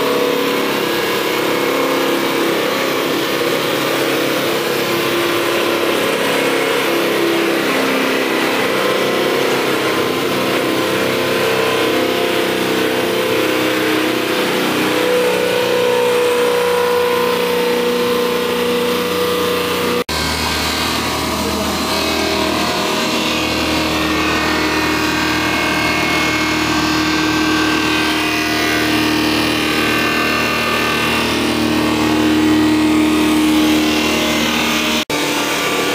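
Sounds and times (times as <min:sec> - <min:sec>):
sawdust machine whining and humming: 0:00.0 - 0:35.9
wood cutting noise: 0:00.0 - 0:35.9.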